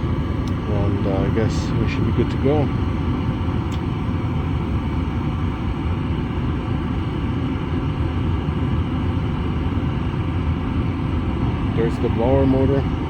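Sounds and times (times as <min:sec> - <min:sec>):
gas furnace rumbling: 0:00.0 - 0:13.0.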